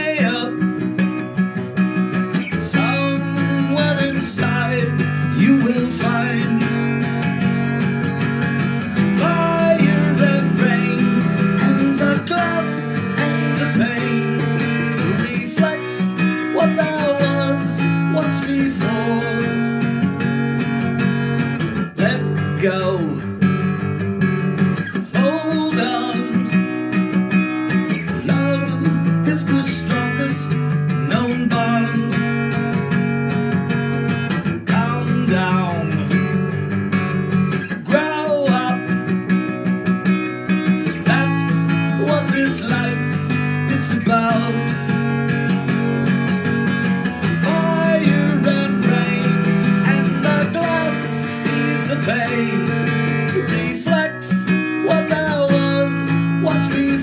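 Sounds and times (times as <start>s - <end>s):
man singing: 0.0s - 23.7s, 24.8s - 33.0s, 34.0s - 36.7s, 37.5s - 57.0s
strummed acoustic guitar: 0.0s - 57.0s.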